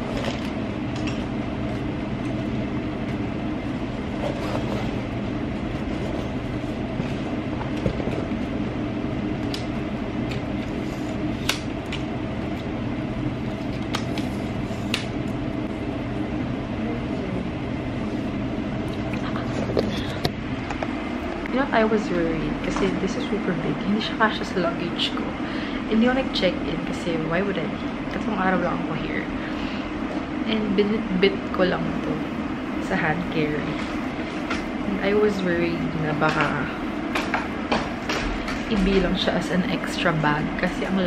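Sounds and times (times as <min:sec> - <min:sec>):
ceiling fan humming: 0:00.0 - 0:41.0.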